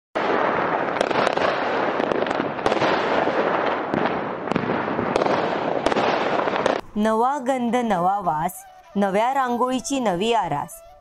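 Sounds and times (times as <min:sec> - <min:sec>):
fireworks crackling and popping: 0:00.2 - 0:09.5.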